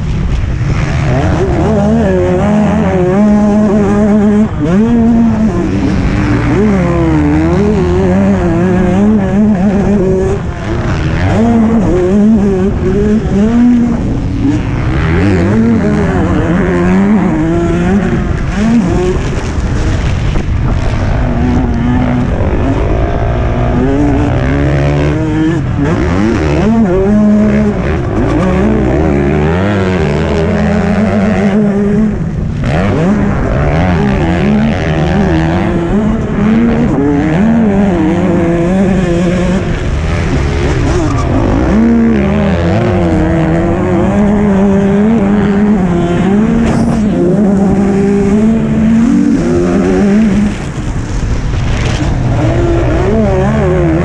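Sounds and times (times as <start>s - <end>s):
motocross bikes racing: 0.0s - 54.0s.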